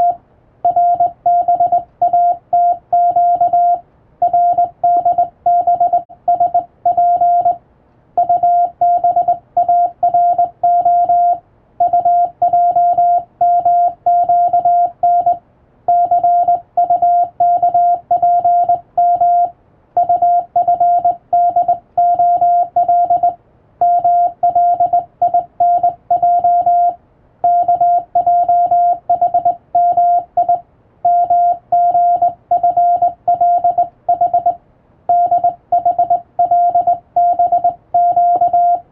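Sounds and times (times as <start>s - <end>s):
morse code beeps: 0.0s - 7.6s, 8.2s - 38.9s.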